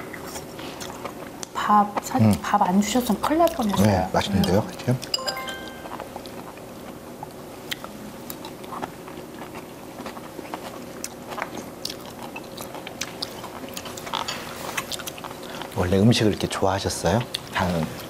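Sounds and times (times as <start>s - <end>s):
people chewing: 0.0s - 5.2s, 5.9s - 18.0s
faint steady hum: 0.0s - 18.0s.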